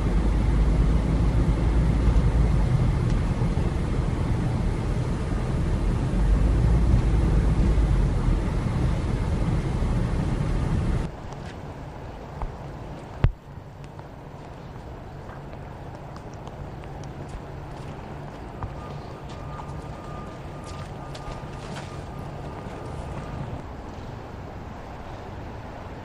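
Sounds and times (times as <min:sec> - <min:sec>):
tyres on packed snow: 0:00.0 - 0:25.9
car engine rumble: 0:00.0 - 0:26.0.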